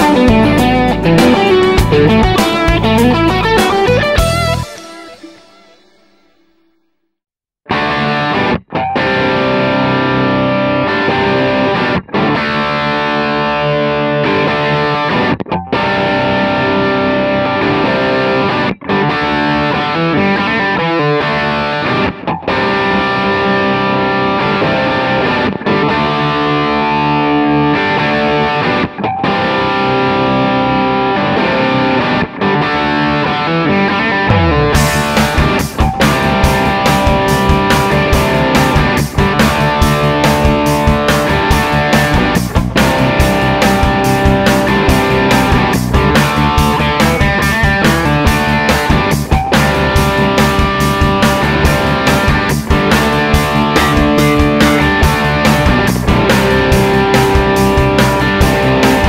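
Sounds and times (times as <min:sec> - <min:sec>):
overdriven electric guitar riffs: 0:00.0 - 0:07.0, 0:07.6 - 0:59.0.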